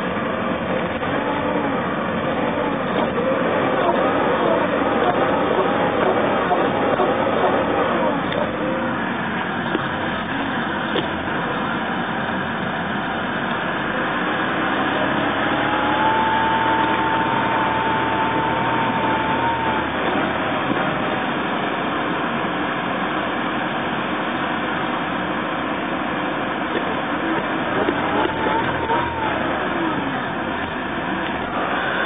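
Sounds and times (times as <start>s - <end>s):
car engine running: 0.0s - 32.0s
supercharger whine: 0.0s - 32.0s.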